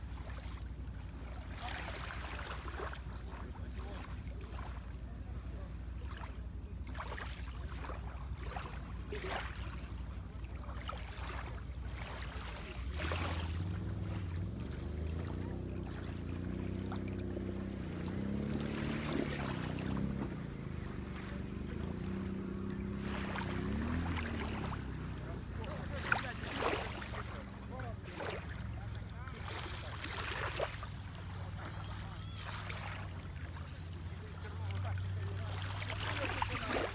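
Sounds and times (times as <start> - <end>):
low wavering motor hum: 0.0 - 36.9
sea waves washing: 0.0 - 36.9.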